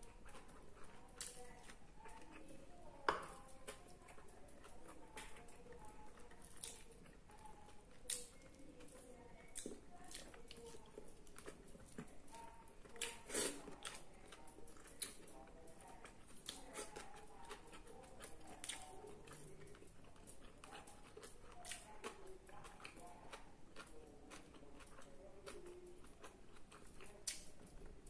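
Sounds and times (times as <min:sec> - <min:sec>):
man chewing with lip smacks: 0:03.2 - 0:28.0.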